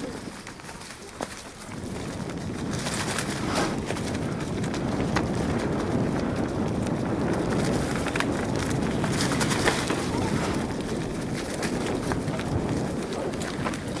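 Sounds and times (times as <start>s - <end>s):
bike rattling over bumps: 0.0s - 14.0s
bike tyres crunching over leaves: 0.0s - 14.0s.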